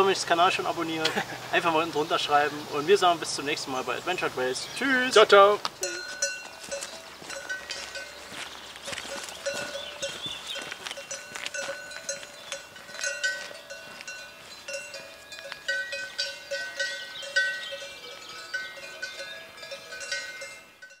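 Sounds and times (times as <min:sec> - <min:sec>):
cow bells clanking: 0:03.2 - 0:21.0.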